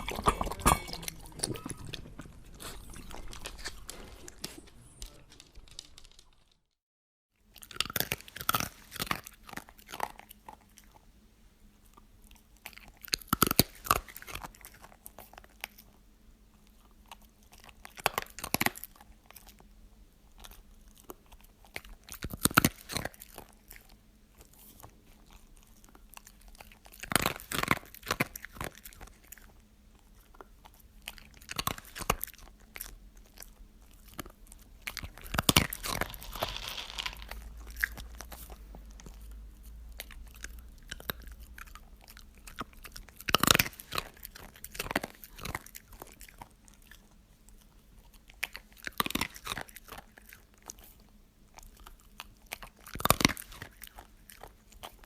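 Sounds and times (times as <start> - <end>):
crunchy food chewing: 0.0 - 5.4, 7.6 - 55.0.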